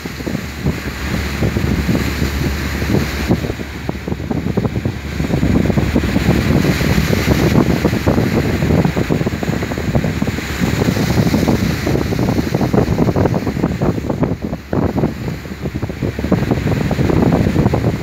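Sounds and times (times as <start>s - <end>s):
heavy seas breaking against hull: 0.0s - 18.0s
wind buffeting microphone: 0.0s - 18.0s.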